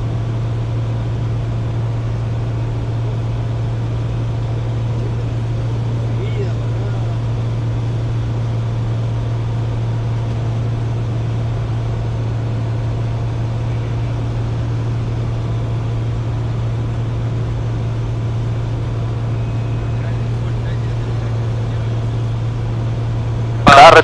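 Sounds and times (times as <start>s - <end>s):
airplane engine and propeller droning: 0.0s - 24.0s.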